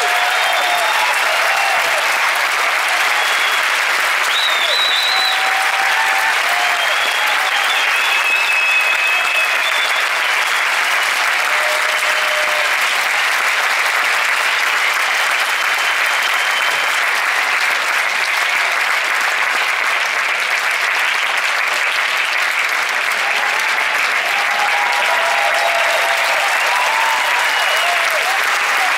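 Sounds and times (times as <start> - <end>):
audience applauding: 0.0 - 28.9.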